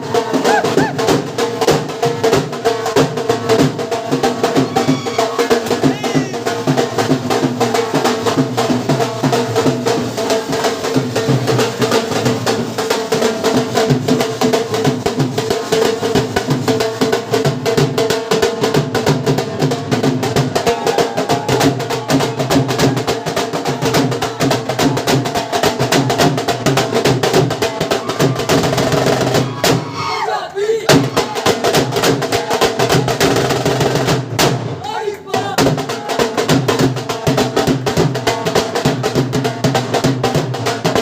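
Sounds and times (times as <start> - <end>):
music with fast percussion: 0.0 - 29.9, 30.9 - 41.0.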